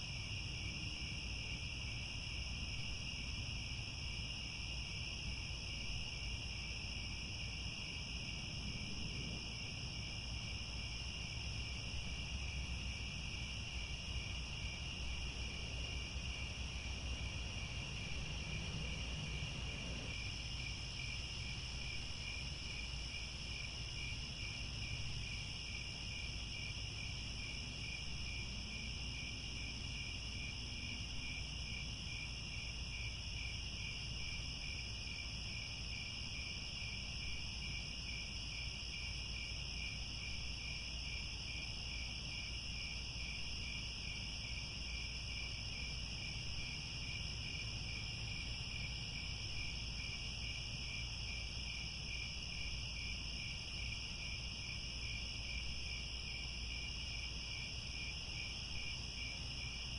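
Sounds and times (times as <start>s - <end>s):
high ringing crickets: 0.0s - 59.9s
lower pulsing crickets: 0.0s - 59.9s.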